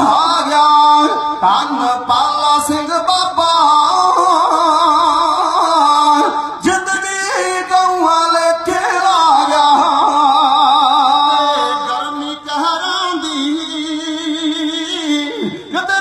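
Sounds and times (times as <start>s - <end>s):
man singing with vibrato: 0.0s - 16.0s.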